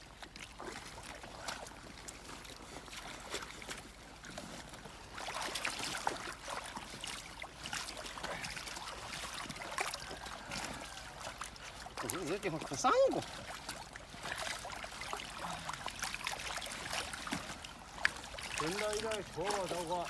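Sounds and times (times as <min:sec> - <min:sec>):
water splashing and trickling: 0:00.0 - 0:20.0.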